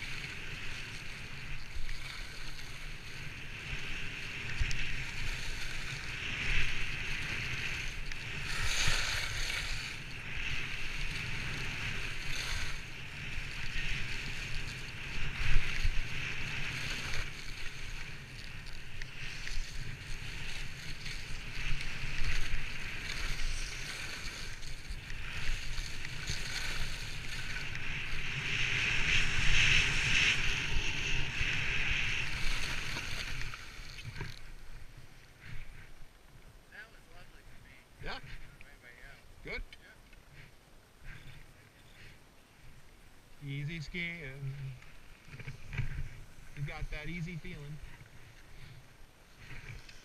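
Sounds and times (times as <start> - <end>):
skis scraping over snow: 0.0 - 36.0, 43.4 - 50.0
wind rumbling on microphone: 0.0 - 39.5, 40.2 - 50.0.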